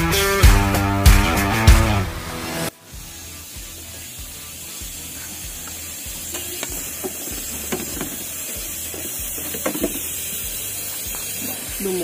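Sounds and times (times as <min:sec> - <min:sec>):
steady hiss: 0:02.2 - 0:12.0.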